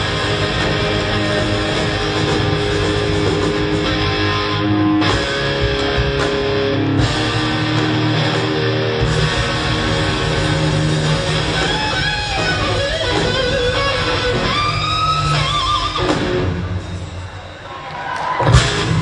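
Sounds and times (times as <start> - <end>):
electric guitar chords ringing: 0.0 - 17.4
live rock band playing: 0.0 - 19.0.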